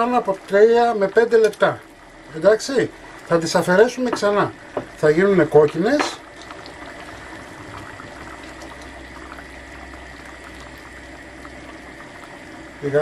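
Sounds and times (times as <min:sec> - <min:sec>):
broth bubbling at a simmer: 0:00.0 - 0:13.0.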